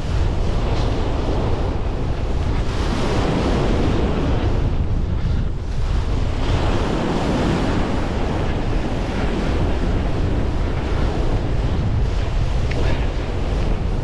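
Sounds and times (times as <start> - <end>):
ocean surf: 0.0 - 14.0
wind buffeting microphone: 0.0 - 14.0.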